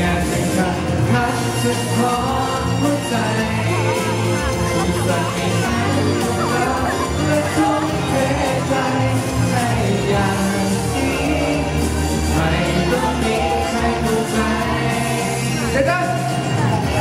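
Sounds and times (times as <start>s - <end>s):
backing music: 0.0s - 17.0s
man singing into microphone: 0.0s - 17.0s.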